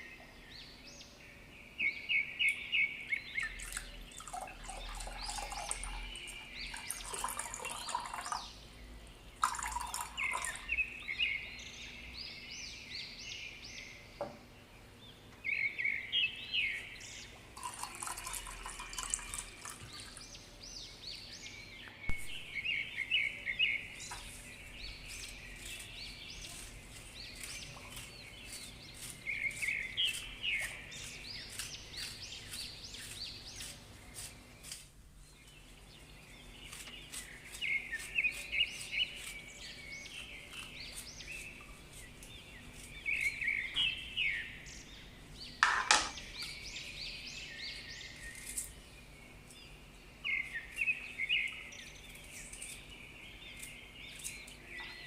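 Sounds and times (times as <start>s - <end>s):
birds chirping and calling: 0.0s - 8.8s, 9.4s - 14.2s, 14.8s - 55.0s.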